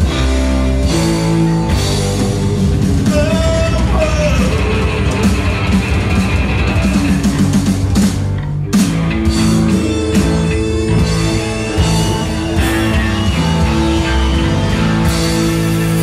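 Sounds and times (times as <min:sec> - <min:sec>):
drums: 0:00.0 - 0:16.0
electric guitar: 0:00.0 - 0:16.0
keyboard: 0:00.0 - 0:16.0.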